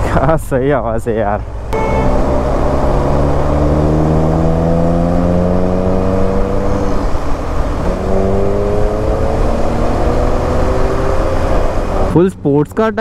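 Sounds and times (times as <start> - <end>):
wind and road noise: 0.0 - 13.0
car exhaust accelerating: 1.4 - 12.2.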